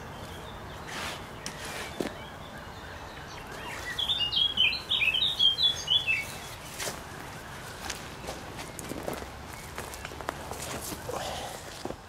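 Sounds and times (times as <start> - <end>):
songbird singing: 0.0 - 11.9.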